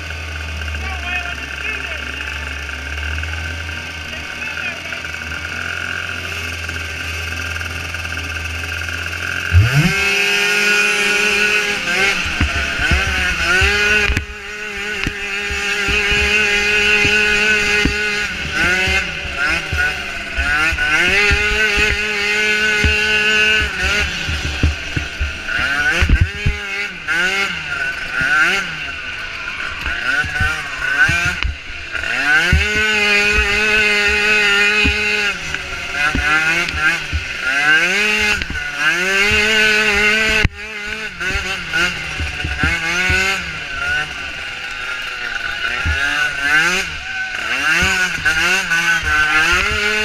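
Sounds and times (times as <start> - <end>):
atv engines idling and revving: 0.0 - 50.0.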